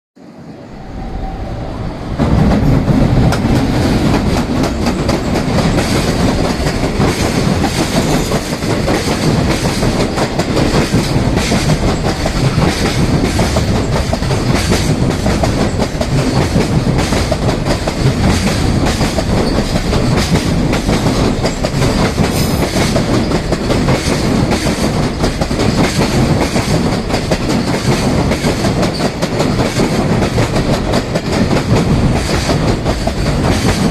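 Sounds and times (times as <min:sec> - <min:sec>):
freight train passing: 0:00.2 - 0:33.9
wagons clattering over rail joints: 0:02.6 - 0:33.9.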